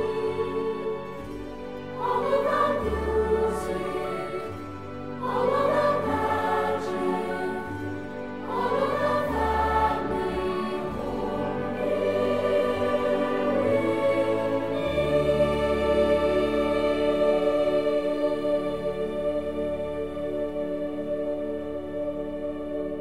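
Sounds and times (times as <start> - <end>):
choir singing sustained chords: 0.0 - 23.0.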